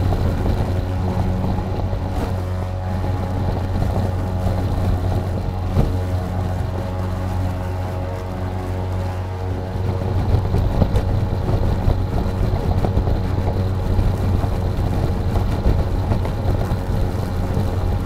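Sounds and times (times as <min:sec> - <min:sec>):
lawn mower motor hum: 0:00.0 - 0:18.0.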